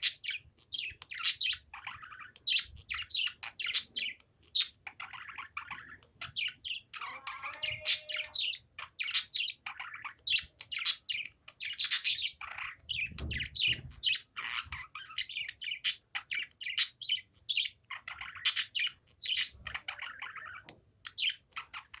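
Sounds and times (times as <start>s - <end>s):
budgerigar chattering: 0.0s - 22.0s.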